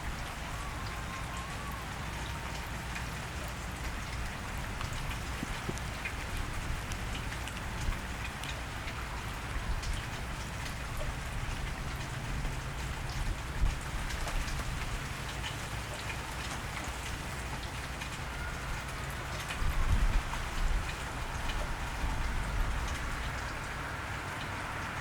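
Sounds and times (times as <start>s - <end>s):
louder water drips: 0.0s - 25.0s
steady rain falling: 0.0s - 25.0s.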